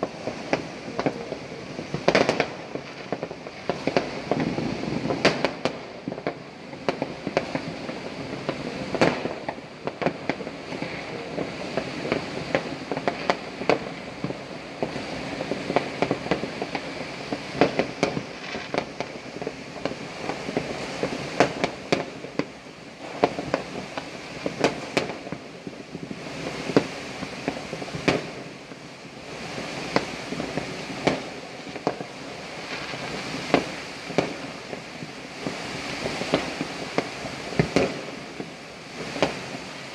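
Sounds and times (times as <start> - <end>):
fireworks bangs and pops: 0.0 - 39.9
steady hiss: 0.0 - 39.9.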